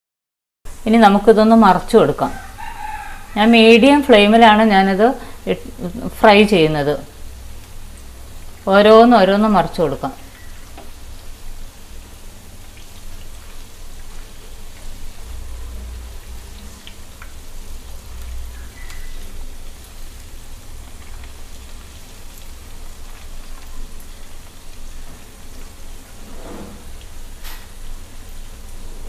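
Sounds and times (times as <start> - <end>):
batter frying in oil: 0.7 - 29.0.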